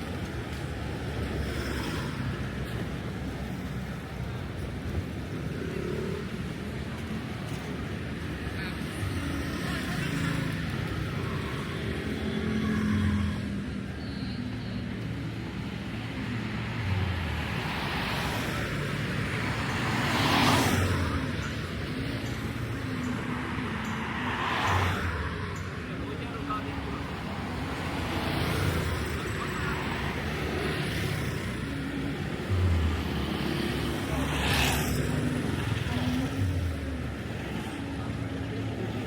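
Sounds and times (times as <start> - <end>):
vehicles passing: 0.0 - 39.0.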